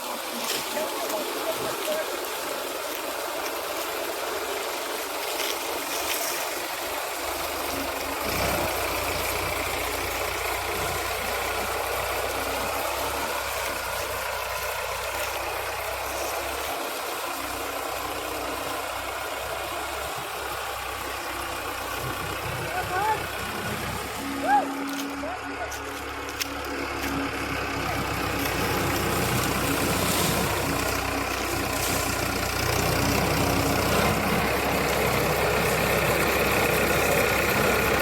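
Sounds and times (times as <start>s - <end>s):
harvester engine running: 0.0s - 38.0s.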